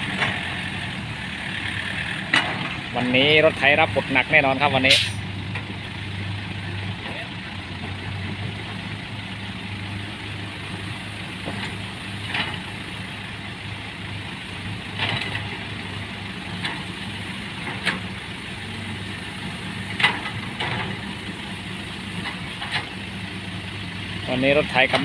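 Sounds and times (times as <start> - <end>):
heavy vehicle engine idling: 0.0 - 25.0.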